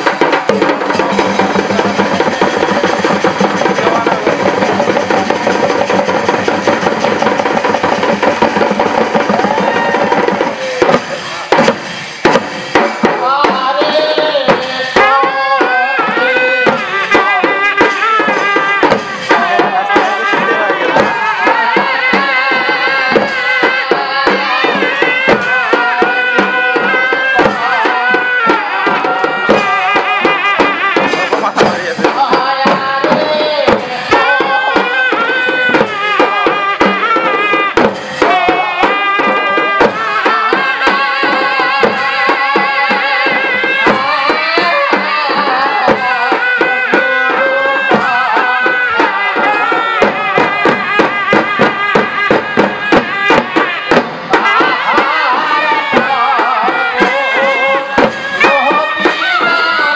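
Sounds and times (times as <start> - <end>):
folk dance music: 0.0 - 59.9
hand drums beating: 0.0 - 59.9.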